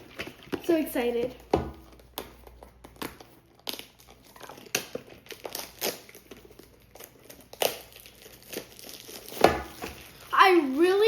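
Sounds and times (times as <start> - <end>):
packaging crinkling: 1.8 - 11.0.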